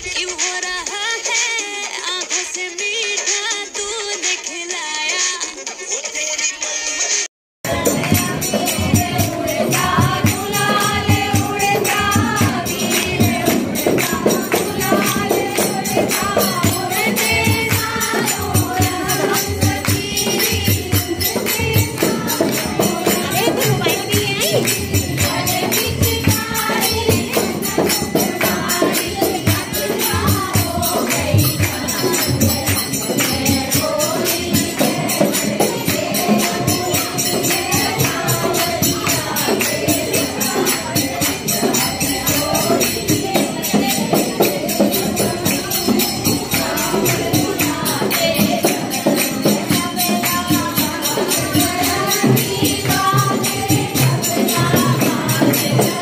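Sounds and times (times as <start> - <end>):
group singing: 6.2 - 56.0
busy percussion beat: 7.0 - 56.0.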